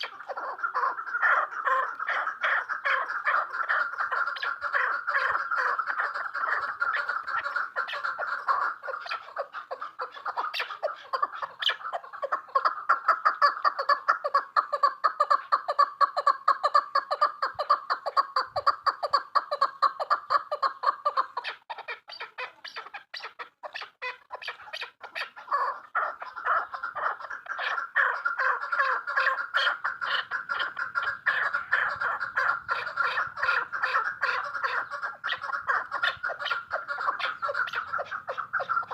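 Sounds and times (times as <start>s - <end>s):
partridge clucking calls: 0.0s - 38.9s.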